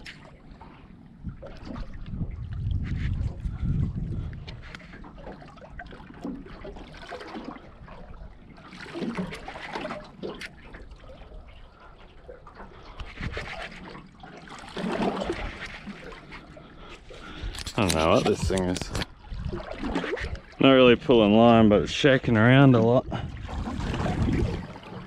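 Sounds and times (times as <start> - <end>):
water sloshing around a boat: 0.0 - 25.0.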